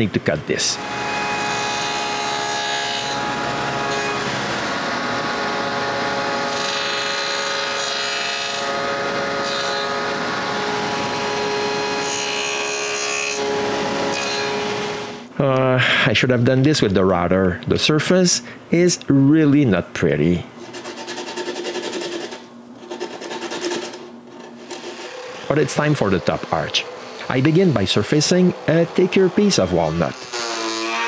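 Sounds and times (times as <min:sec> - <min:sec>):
table saw cutting wood: 0:00.7 - 0:15.3, 0:20.7 - 0:31.0.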